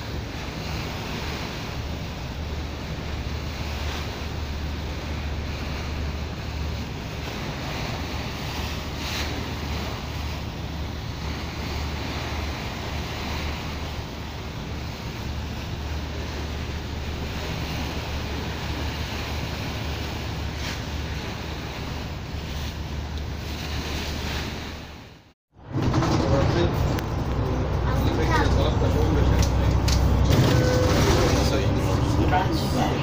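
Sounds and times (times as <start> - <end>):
boat engine drone: 0.0 - 33.0
water rushing past boat: 0.0 - 33.0.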